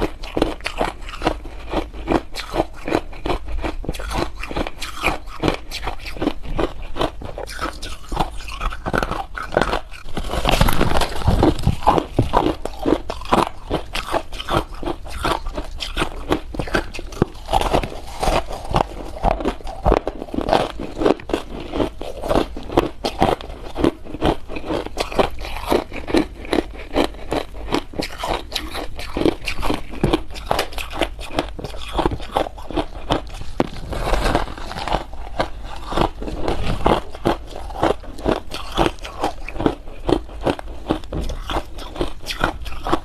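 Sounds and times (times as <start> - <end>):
ice crunching between teeth: 0.0 - 43.0.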